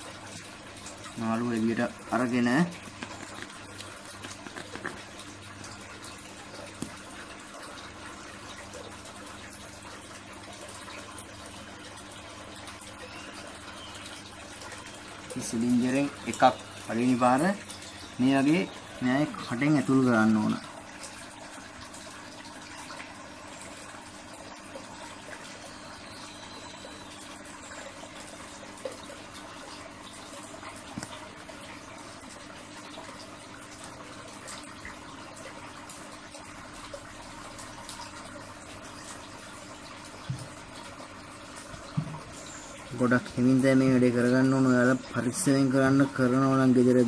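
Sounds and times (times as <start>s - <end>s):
running water: 0.0s - 47.0s.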